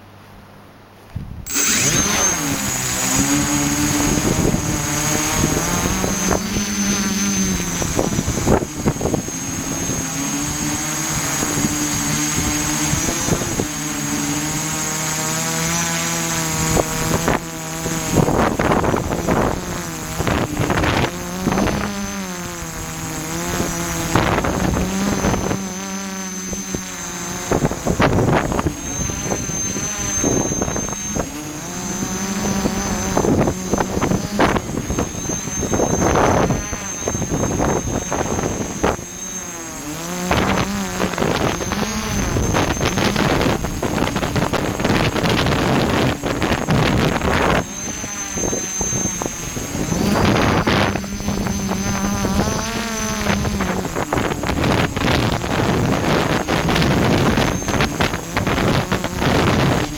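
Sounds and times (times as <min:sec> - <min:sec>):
wind buffeting microphone: 0:01.2 - 0:59.9
drone motors whining: 0:01.4 - 0:59.9.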